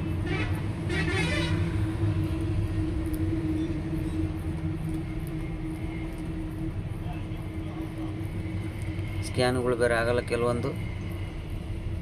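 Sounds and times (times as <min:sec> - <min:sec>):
truck engine drone from cab: 0:00.0 - 0:12.0.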